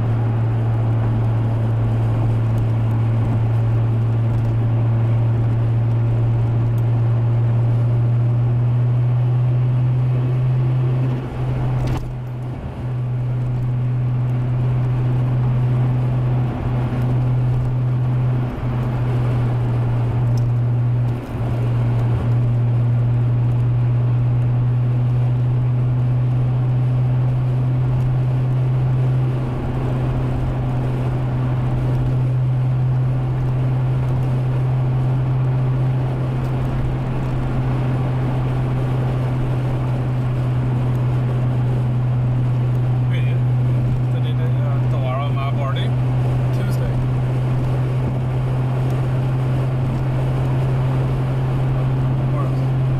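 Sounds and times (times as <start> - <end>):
car engine droning: 0.0 - 52.9.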